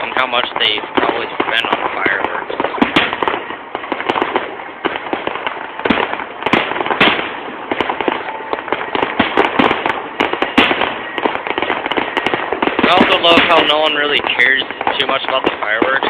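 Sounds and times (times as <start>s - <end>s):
fireworks crackling and popping: 0.0s - 16.0s
heavy firework booms: 0.0s - 16.0s.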